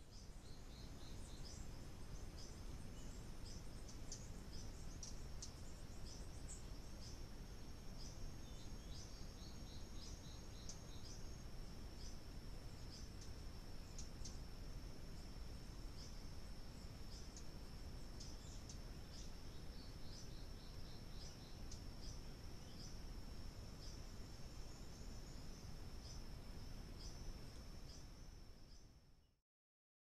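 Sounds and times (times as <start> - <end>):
high-pitched insect trill: 0.0 - 29.2
low even hiss: 0.0 - 29.4.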